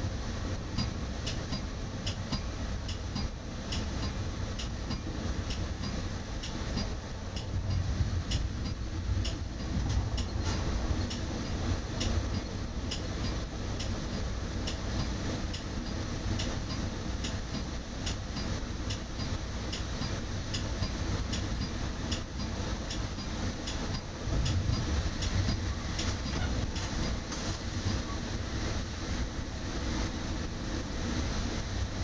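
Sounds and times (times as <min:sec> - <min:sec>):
train low rumble: 0:00.0 - 0:32.0.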